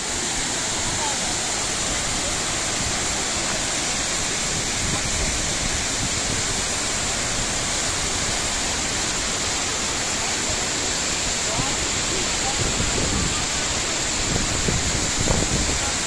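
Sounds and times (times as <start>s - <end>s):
waterfall rushing onto rocks: 0.0s - 16.0s.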